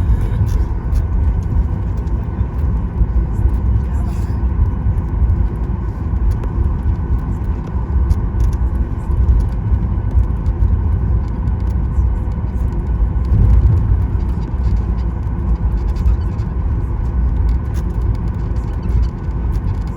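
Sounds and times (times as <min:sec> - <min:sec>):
aircraft wheels rumbling on taxiway: 0:00.0 - 0:19.9
faint steady hum: 0:00.0 - 0:19.9
jet engines at low thrust: 0:00.0 - 0:19.9.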